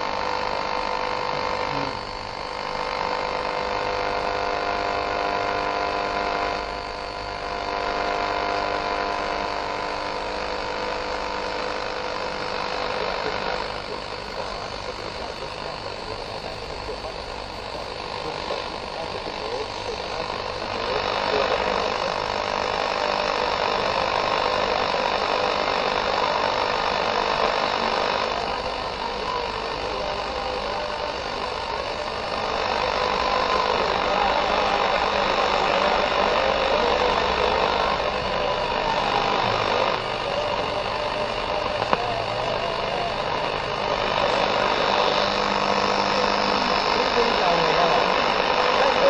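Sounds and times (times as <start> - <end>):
radio static hiss: 0.0 - 49.0
weak distant radio stations: 0.0 - 49.0.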